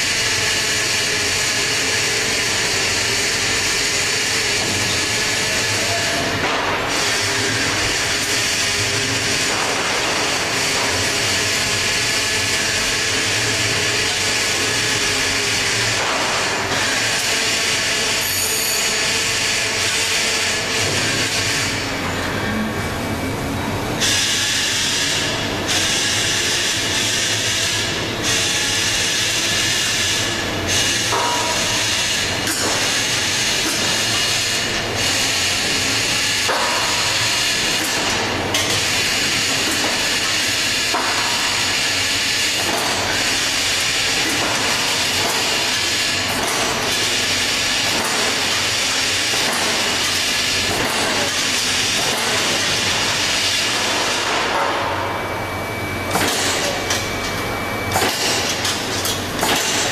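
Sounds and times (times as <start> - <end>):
machine hiss and rumble: 0.0 - 59.9.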